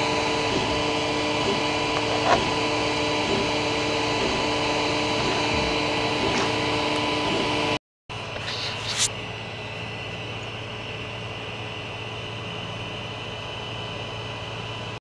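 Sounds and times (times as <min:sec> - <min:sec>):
printer cooling fans whirring: 0:00.0 - 0:15.0.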